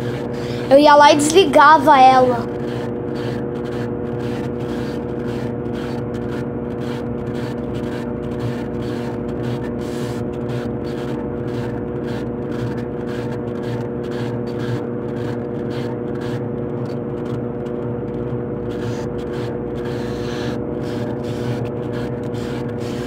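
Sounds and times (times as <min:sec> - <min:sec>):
motor hum: 0:00.0 - 0:23.0.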